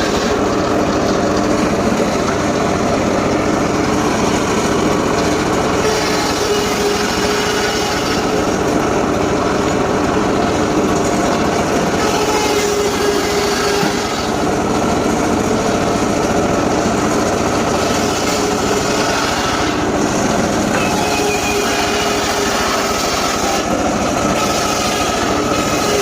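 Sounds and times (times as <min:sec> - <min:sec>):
circular saw ripping timber: 0:00.0 - 0:02.6, 0:03.3 - 0:26.0.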